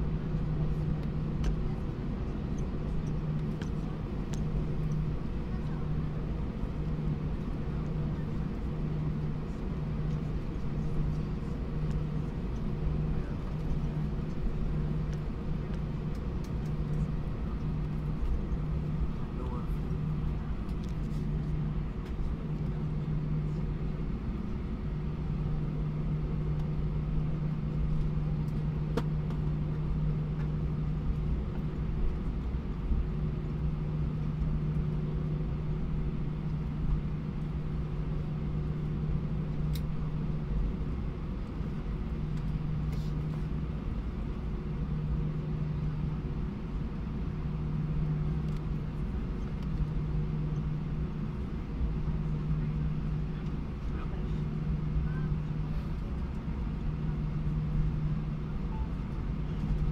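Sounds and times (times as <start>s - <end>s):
aircraft engine hum: 0.0s - 59.9s.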